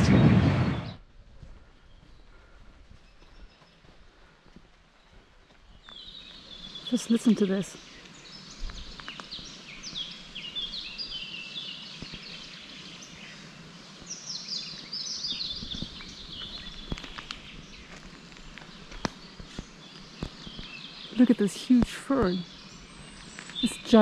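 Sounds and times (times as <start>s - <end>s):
songbird singing: 1.8s - 24.0s.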